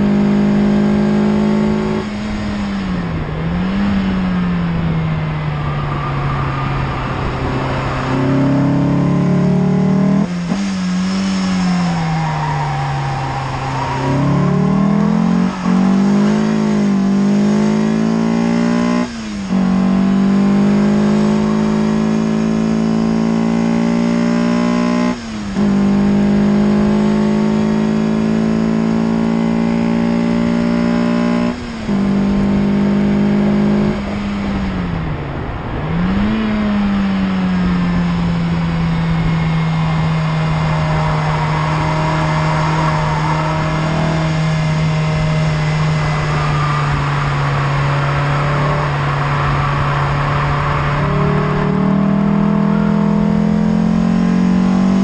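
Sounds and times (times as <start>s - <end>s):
car engine revving high: 0.0s - 55.0s.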